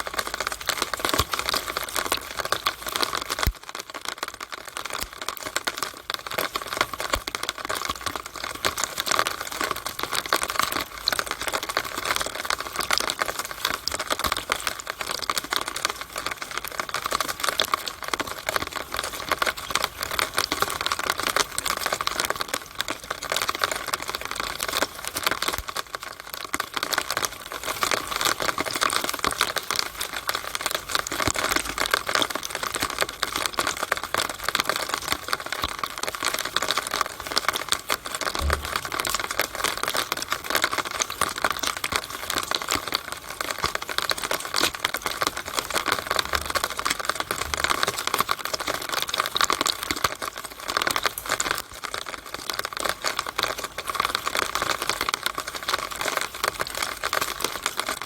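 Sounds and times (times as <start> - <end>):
rainwater dripping in downspout: 0.0 - 58.0.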